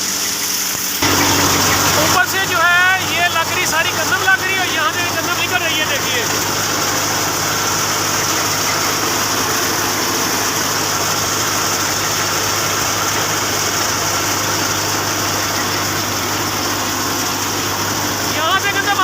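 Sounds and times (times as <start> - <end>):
thresher mechanical drone: 0.0 - 19.0.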